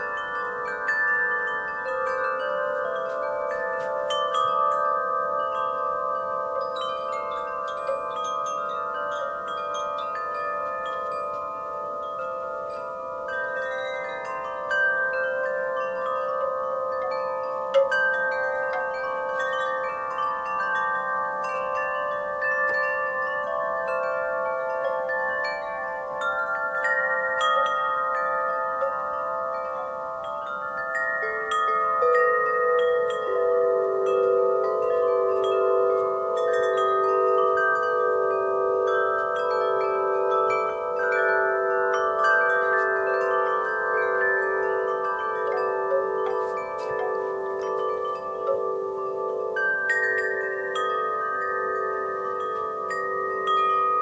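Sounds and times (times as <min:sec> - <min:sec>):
wind chimes ringing: 0:00.0 - 0:54.0.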